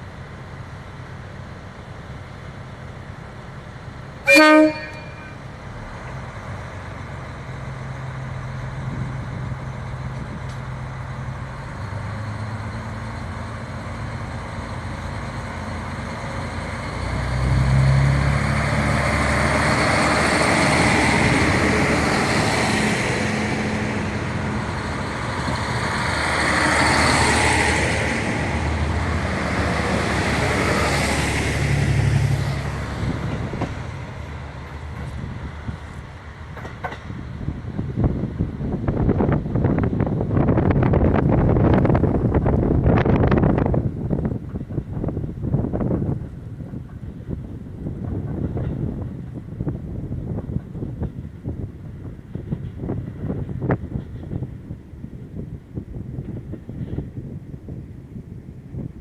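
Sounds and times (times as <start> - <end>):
train diesel engines: 0.0 - 59.0
train running noise: 0.0 - 59.0.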